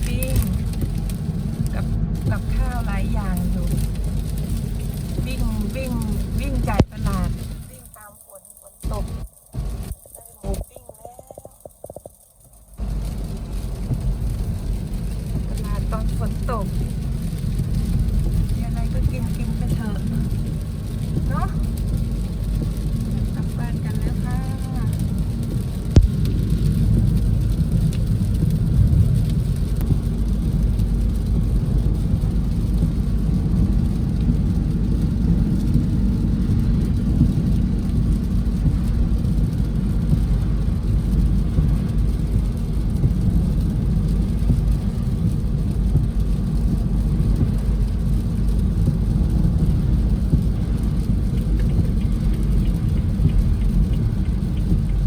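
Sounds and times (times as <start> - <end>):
heavy rain: 0.0 - 55.0
vehicle rumble: 0.0 - 55.0.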